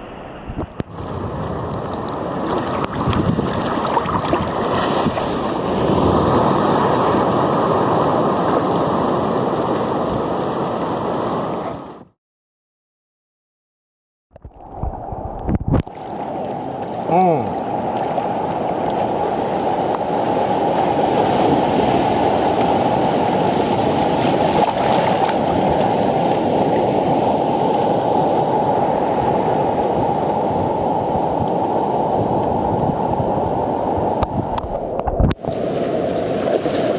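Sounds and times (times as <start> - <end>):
muffled surf and wind: 0.0 - 12.1, 14.4 - 36.9.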